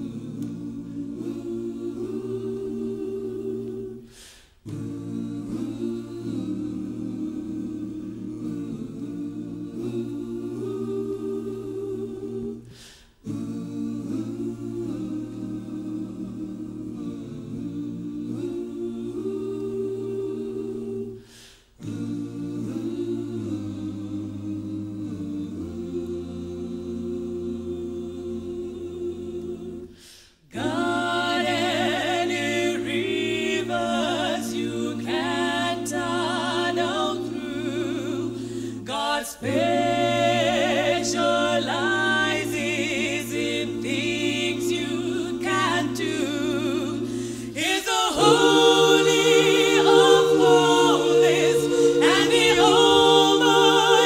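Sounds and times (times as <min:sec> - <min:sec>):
gospel choir singing a cappella: 0:00.0 - 0:54.0.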